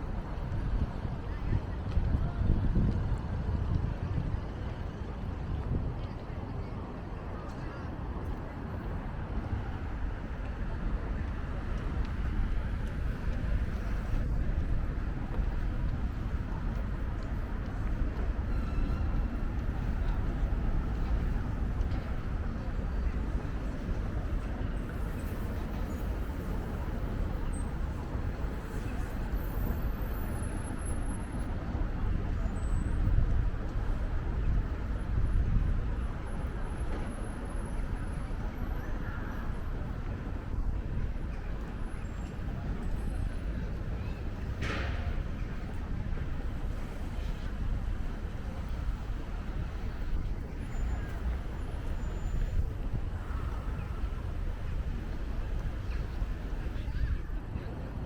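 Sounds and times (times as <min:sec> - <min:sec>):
faint outdoor ambience: 0:00.0 - 0:58.0
wind buffeting microphone: 0:00.0 - 0:58.0.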